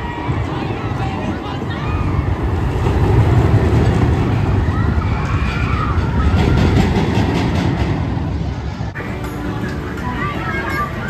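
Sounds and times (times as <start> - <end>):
roller coaster train rumbling on track: 0.0 - 11.0.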